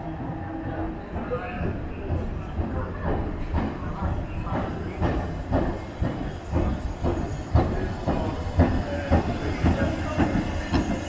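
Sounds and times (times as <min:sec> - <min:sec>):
tram wheels rumbling over rails: 0:00.0 - 0:11.0.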